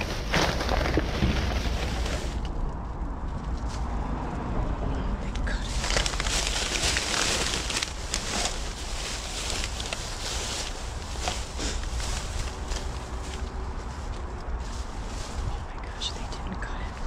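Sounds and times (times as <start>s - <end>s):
plastic bags rustling: 0.0s - 2.5s, 5.5s - 16.8s.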